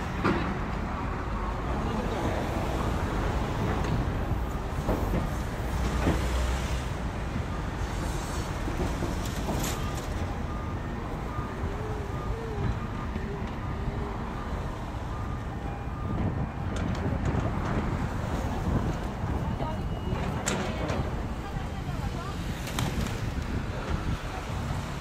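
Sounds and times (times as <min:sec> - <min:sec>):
passing traffic rumble: 0:00.0 - 0:25.0.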